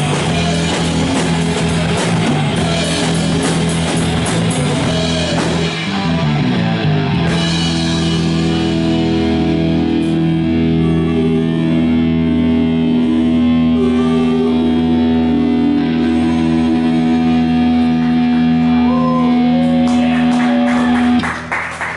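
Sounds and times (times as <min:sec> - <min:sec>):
live rock band playing: 0:00.0 - 0:21.6
electric guitar chord ringing: 0:02.6 - 0:21.2.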